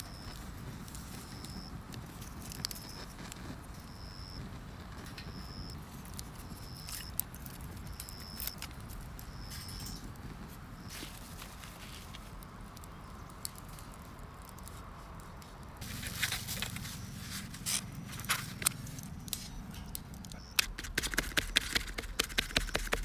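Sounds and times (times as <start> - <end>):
campfire crackling and popping: 0.1 - 23.0.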